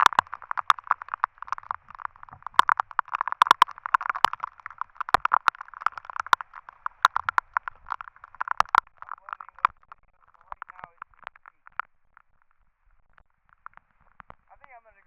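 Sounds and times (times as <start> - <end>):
rain drops striking camera: 0.0 - 15.0.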